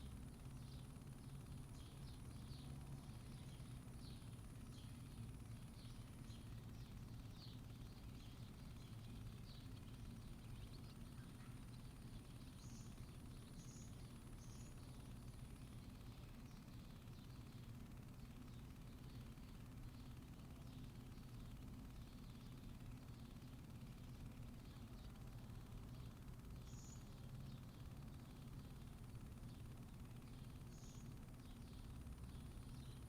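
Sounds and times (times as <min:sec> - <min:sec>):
low hum: 0:00.0 - 0:33.0
small birds chirping: 0:00.0 - 0:33.0.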